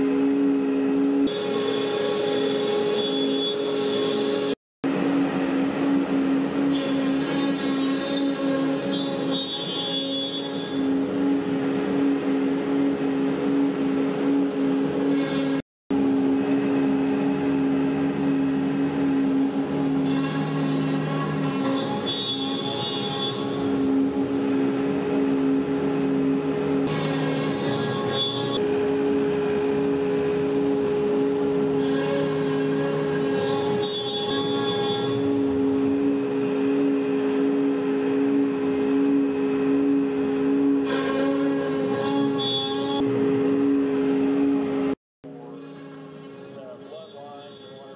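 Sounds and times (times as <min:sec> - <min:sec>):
rushing cutting and extraction noise: 0:00.0 - 0:45.0
high machine whine: 0:00.0 - 0:47.9
router spindle humming: 0:04.9 - 0:45.0.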